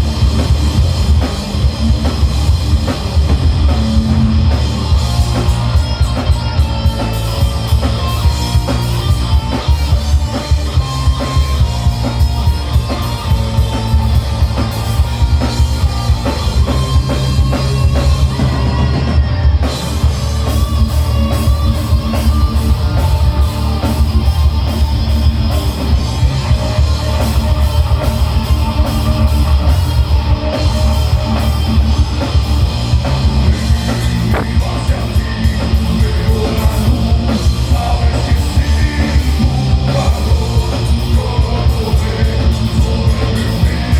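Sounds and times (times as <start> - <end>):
bass guitar: 0.0 - 43.9
distorted guitars: 0.0 - 43.9
fast drum-kit beat: 0.0 - 43.9.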